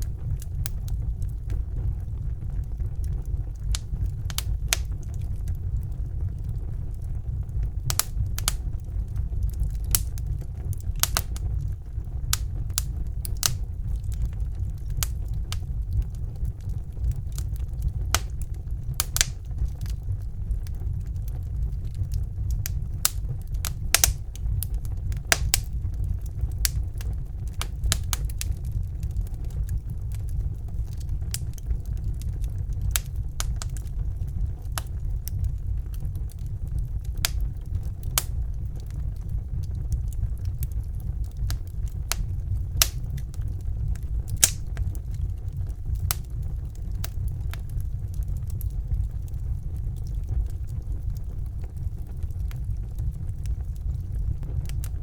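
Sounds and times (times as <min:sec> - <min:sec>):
burning logs crackling and popping: 0:00.0 - 0:55.0
fire flames roaring: 0:00.0 - 0:55.0.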